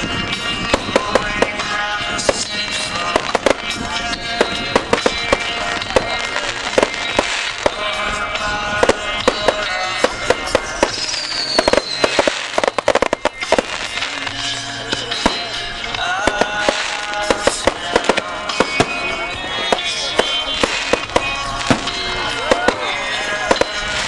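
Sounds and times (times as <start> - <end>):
fireworks bangs and crackles: 0.0 - 24.0
music: 0.0 - 24.0.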